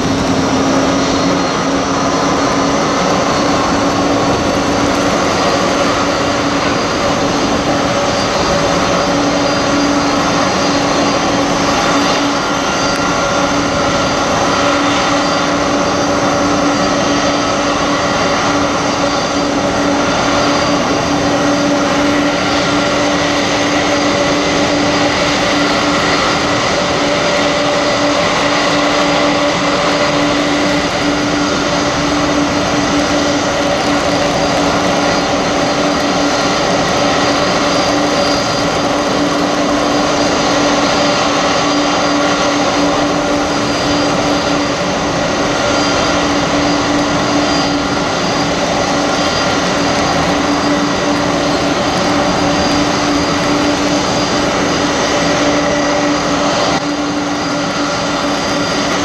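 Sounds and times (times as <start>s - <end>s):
constant hum: 0.0s - 59.0s
jet turbine whine: 0.0s - 59.0s.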